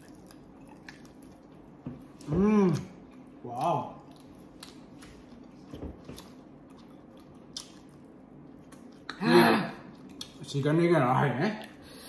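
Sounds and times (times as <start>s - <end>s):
wet chewing mouth sounds: 0.0s - 9.2s, 9.8s - 10.4s.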